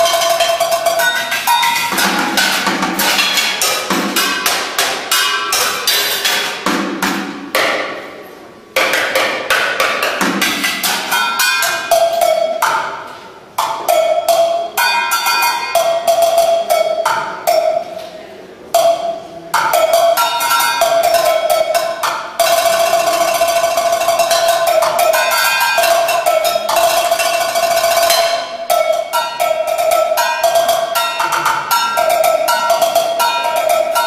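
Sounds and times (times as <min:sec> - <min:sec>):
rapid drumming on found objects: 0:00.0 - 0:08.0, 0:08.8 - 0:13.0, 0:13.6 - 0:17.9, 0:18.8 - 0:34.0.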